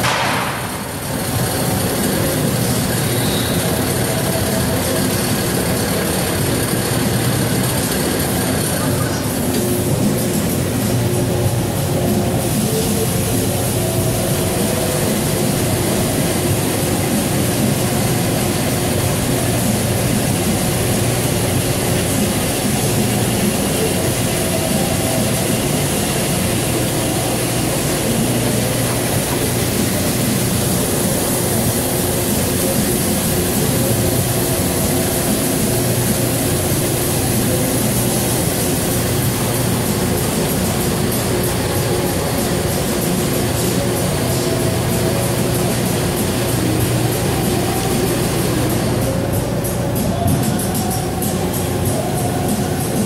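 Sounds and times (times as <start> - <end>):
coolant spraying hiss: 0.0 - 53.0
machine hum: 0.0 - 53.0.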